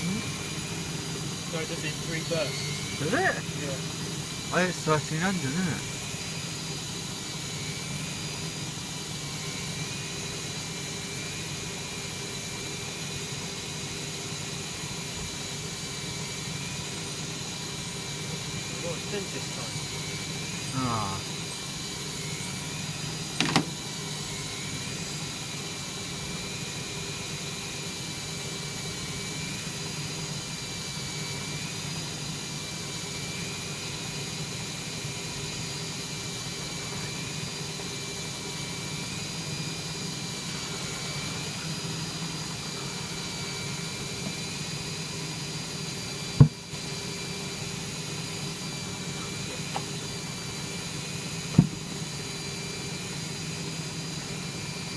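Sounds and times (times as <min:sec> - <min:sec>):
washing machine spin whine: 0:00.0 - 0:54.9.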